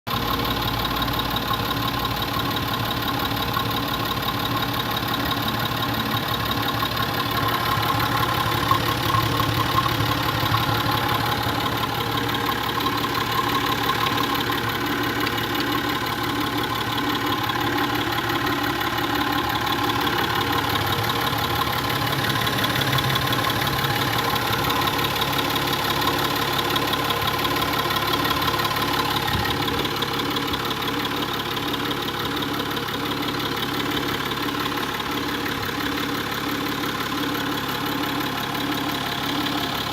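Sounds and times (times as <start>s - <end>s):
diesel engine idling: 0.1s - 39.9s.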